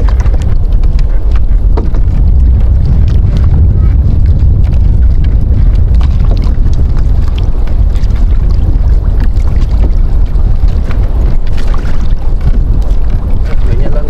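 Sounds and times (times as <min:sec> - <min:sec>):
low rumble of wind and water: 0:00.0 - 0:14.0.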